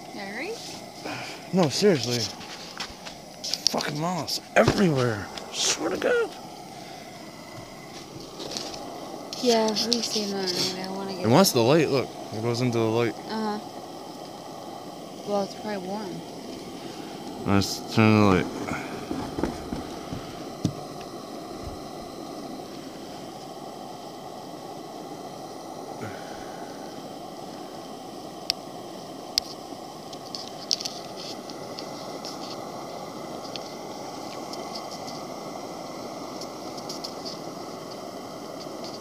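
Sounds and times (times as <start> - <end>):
steady background noise: 0.0 - 39.0.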